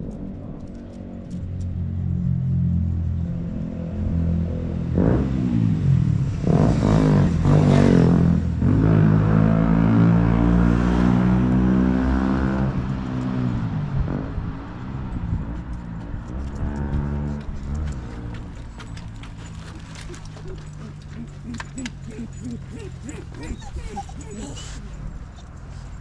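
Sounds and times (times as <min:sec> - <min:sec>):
low engine hum: 0:00.0 - 0:26.0
vehicles passing: 0:00.0 - 0:26.0.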